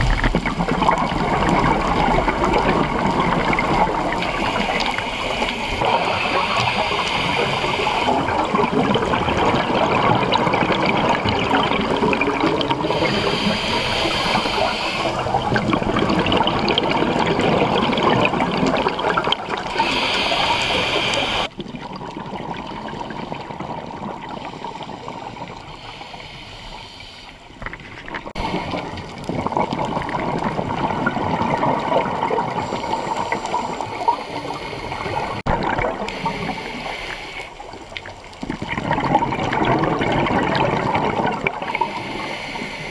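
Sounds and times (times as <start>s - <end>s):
underwater regulator bubbles: 0.0s - 42.9s.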